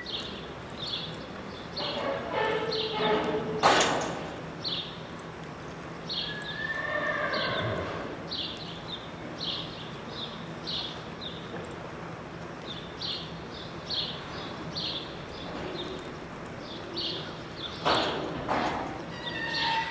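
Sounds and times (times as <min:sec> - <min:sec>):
small birds chirping: 0:00.0 - 0:03.1, 0:04.2 - 0:19.9.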